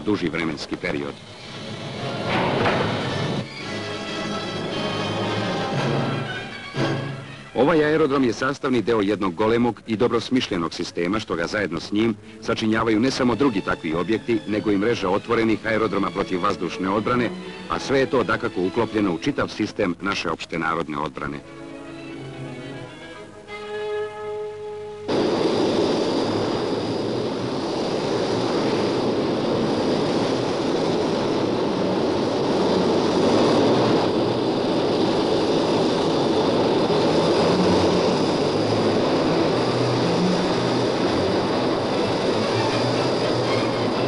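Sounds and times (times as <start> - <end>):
jet engine running with whine: 0.0 - 23.6, 24.8 - 44.0.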